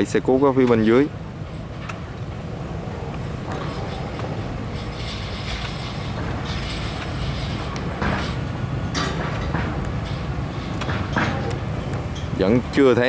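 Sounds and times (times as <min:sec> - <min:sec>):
heavy machinery engine drone: 0:00.0 - 0:13.0.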